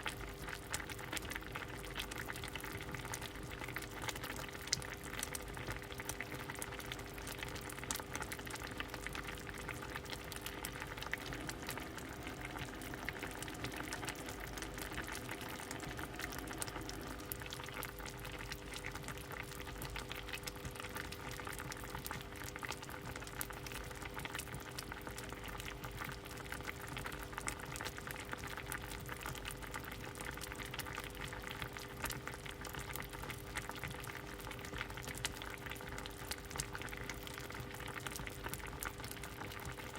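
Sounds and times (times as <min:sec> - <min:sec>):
faint steady hum: 0:00.0 - 0:39.9
soup boiling and bubbling: 0:00.0 - 0:39.9.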